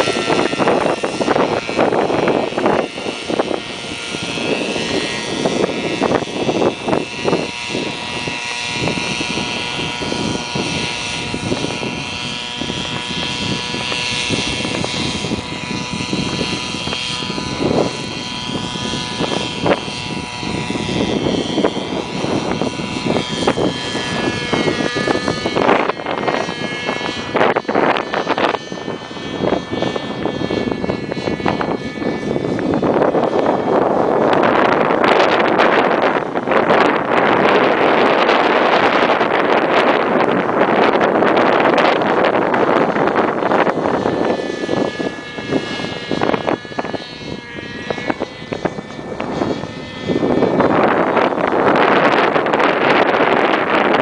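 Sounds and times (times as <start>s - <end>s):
model helicopter engine running: 0.0s - 54.0s
wind buffeting microphone: 0.0s - 54.0s.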